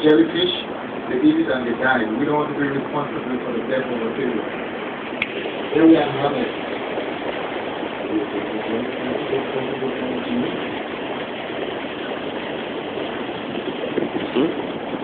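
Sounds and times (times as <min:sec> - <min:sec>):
boat engine running: 0:00.0 - 0:15.0
rush of water: 0:00.0 - 0:15.0.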